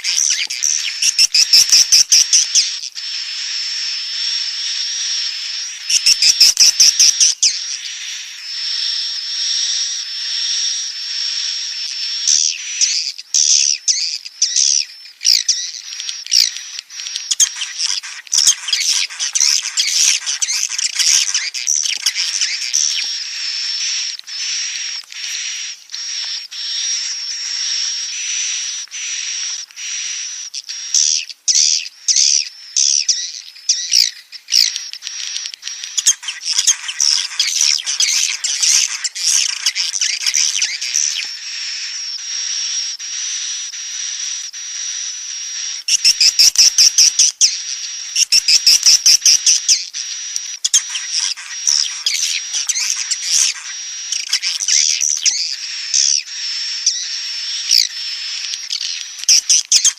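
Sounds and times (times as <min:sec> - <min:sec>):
chicks chittering and cheeping: 0:00.0 - 0:59.9
rapid buzzing chirps: 0:00.0 - 0:59.9.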